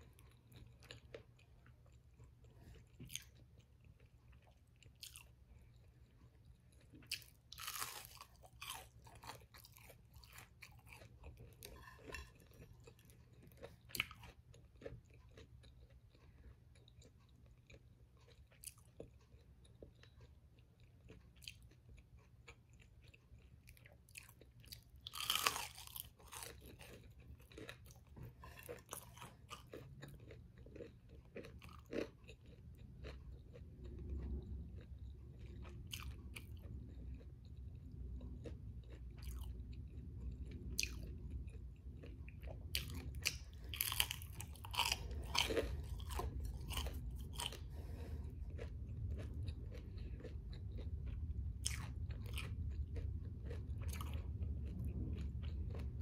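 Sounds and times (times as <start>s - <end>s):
crunchy fried food chewing: 0.0s - 56.0s.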